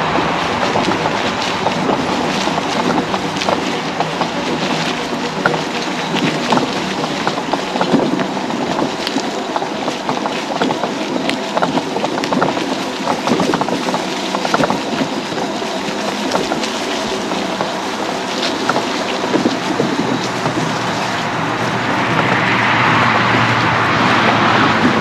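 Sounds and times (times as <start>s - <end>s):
electric scooter motor humming: 0.0s - 25.0s
tyres rolling over leaves and sticks: 0.0s - 25.0s.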